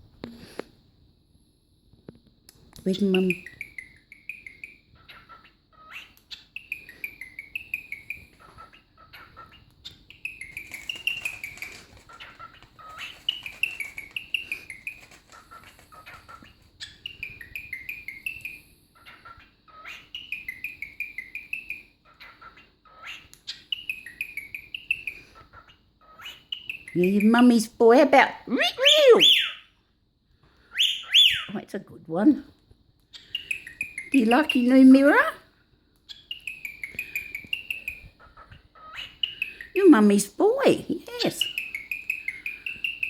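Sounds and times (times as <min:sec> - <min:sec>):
cockatiel chirping and warbling: 0:03.0 - 0:27.5, 0:28.4 - 0:29.7, 0:30.7 - 0:31.6, 0:33.1 - 0:35.4, 0:36.1 - 0:40.1, 0:41.0 - 0:43.0.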